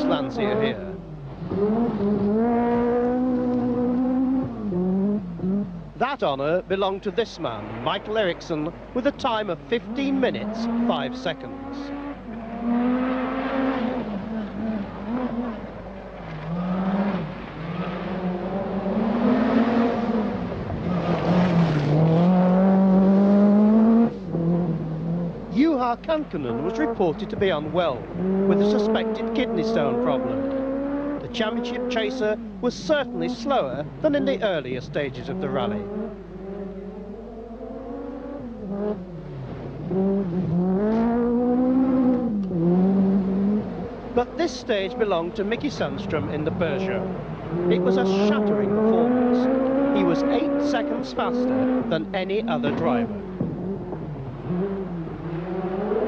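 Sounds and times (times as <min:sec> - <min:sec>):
rally car engine accelerating: 0:00.0 - 0:56.0.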